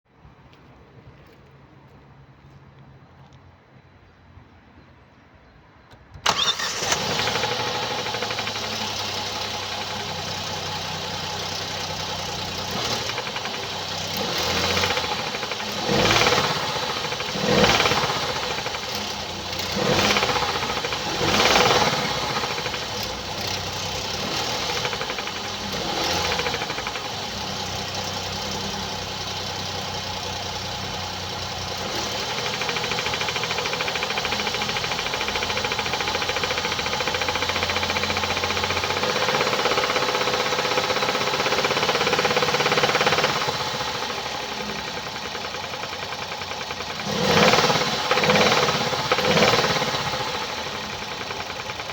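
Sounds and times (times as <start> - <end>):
car engine starting: 6.1 - 51.9
engine revving: 6.2 - 51.9
engine knocking clatter: 7.0 - 51.9.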